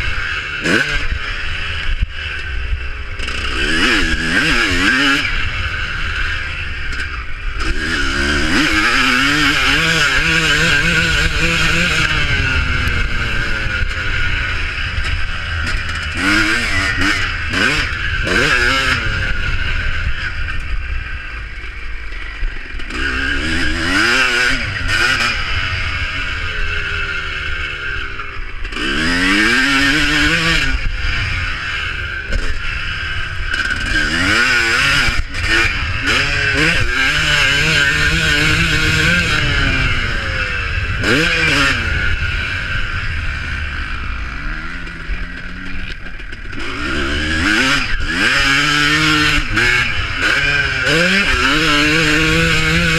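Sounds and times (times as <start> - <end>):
motocross engines revving: 0.0 - 52.9.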